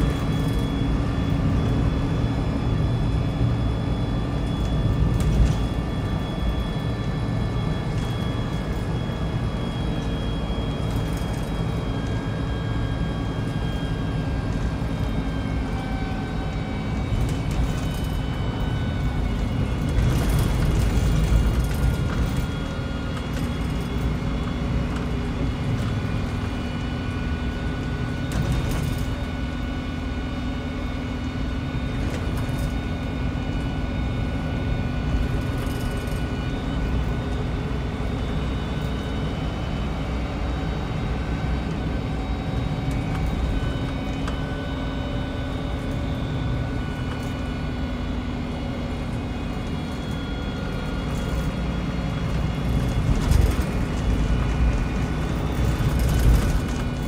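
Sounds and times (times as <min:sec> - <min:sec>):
bus engine drone: 0:00.0 - 0:57.0
high whining tones: 0:00.0 - 0:57.0.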